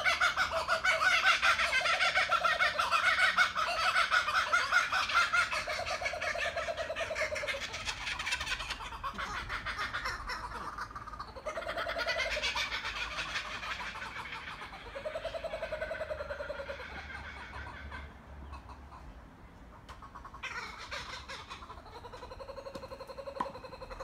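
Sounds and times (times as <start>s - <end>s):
kookaburras laughing: 0.0s - 19.0s, 20.0s - 24.0s.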